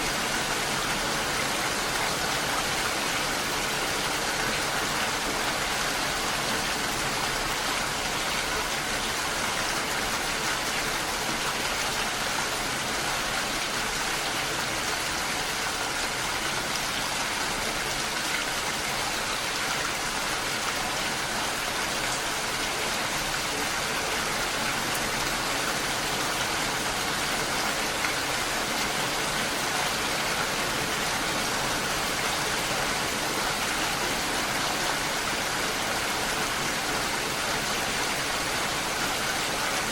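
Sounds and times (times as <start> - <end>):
rain falling on a lake: 0.0 - 39.9.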